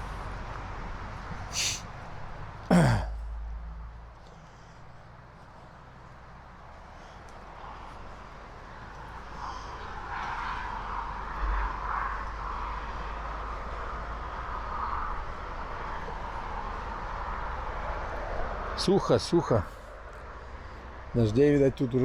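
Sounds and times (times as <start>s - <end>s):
motorway traffic rushing hum: 0.0s - 22.0s.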